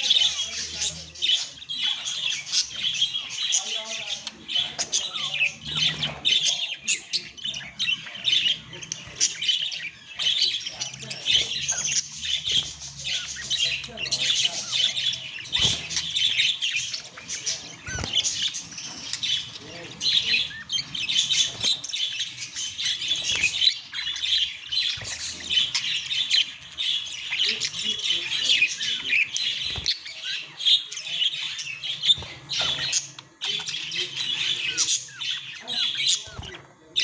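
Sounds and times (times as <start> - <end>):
budgerigar warbling and chattering: 0.0 - 37.0.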